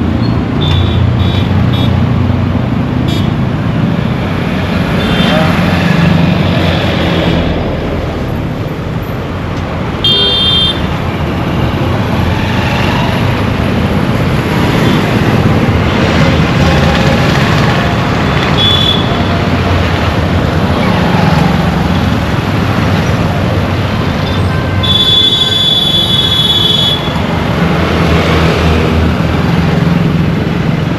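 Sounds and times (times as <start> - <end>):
street traffic noise: 0.0 - 30.9.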